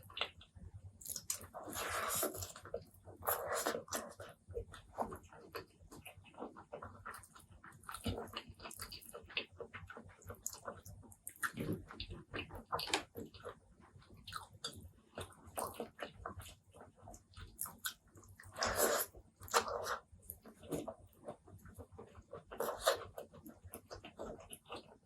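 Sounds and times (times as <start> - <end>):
wet chewing and lip smacking: 0.1 - 25.0.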